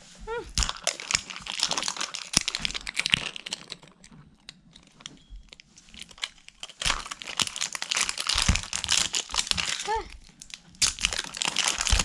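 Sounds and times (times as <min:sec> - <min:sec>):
wrapper crinkling and tearing: 0:00.5 - 0:12.0.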